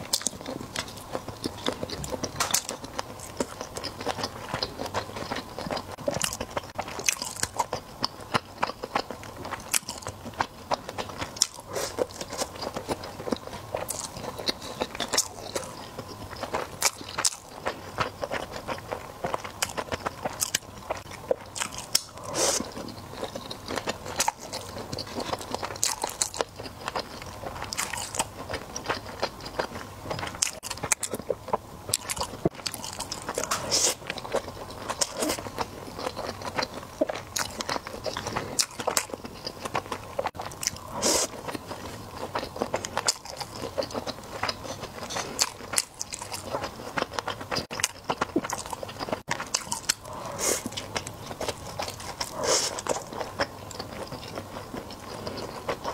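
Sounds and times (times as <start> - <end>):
person chewing sushi: 0.0 - 55.9.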